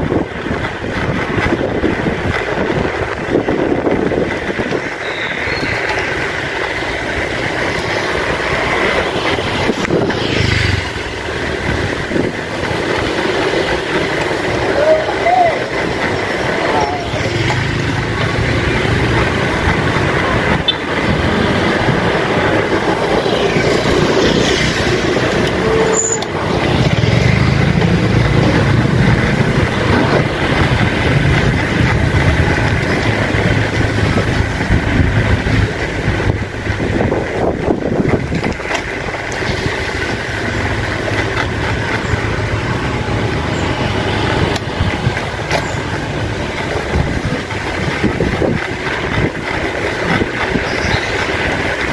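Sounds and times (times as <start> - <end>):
bicycle rolling on street: 0.0 - 51.9.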